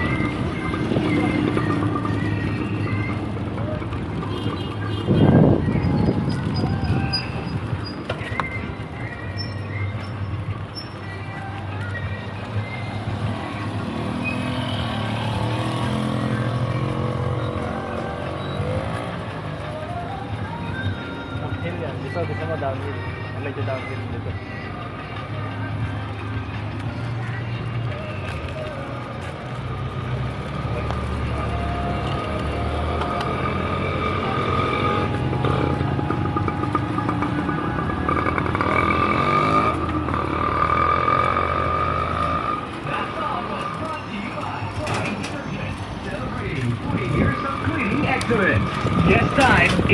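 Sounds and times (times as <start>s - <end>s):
road noise: 0.0s - 49.9s
vehicle engine humming: 0.0s - 49.9s
wind: 0.0s - 49.9s.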